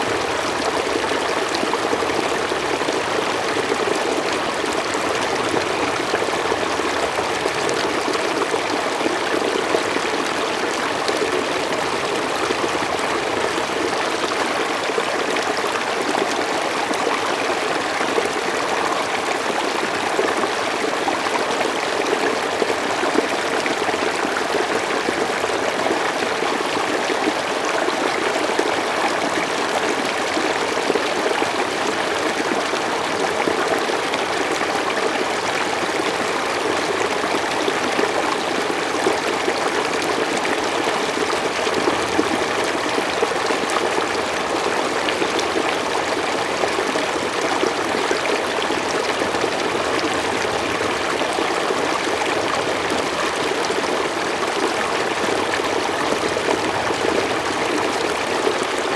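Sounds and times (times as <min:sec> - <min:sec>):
mountain stream flowing: 0:00.0 - 0:58.9.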